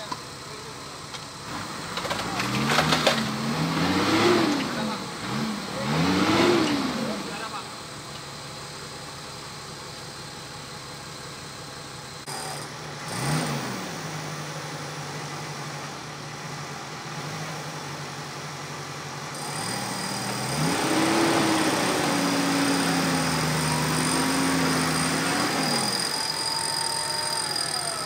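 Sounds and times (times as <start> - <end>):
off-road vehicle engine running: 0.0 - 28.0.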